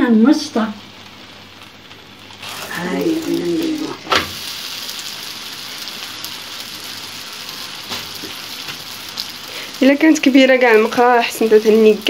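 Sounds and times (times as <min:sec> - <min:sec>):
flatbread sizzling on hot pan: 0:00.1 - 0:12.0.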